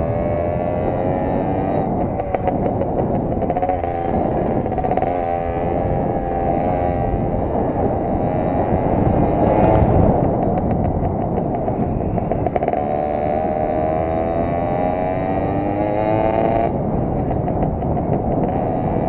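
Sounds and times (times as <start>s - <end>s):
moped engine running: 0.0s - 19.0s.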